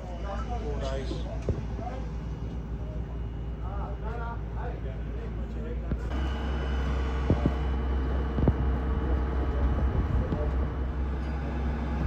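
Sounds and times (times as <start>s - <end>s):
crane engine droning: 0.0s - 12.0s
high-pitched whine: 0.0s - 12.0s.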